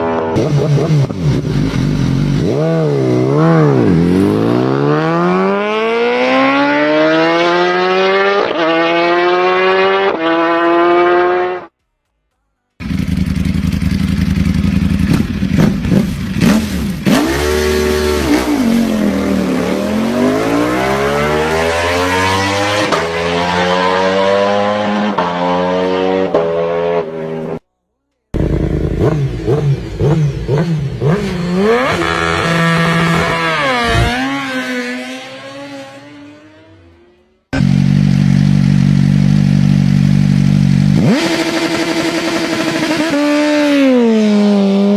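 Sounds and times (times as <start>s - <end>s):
motorcycle engines revving: 0.0s - 11.7s, 12.8s - 27.6s, 28.4s - 44.9s.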